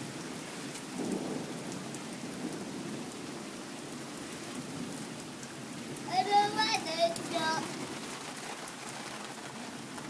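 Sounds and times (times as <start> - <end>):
rain falling on paved path: 0.0 - 10.0.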